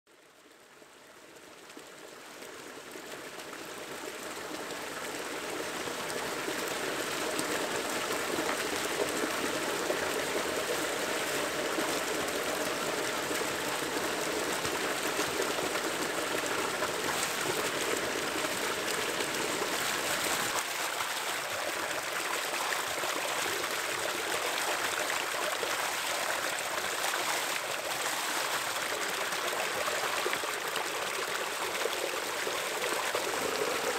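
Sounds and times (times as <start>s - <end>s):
water pouring into pool: 3.0s - 33.9s.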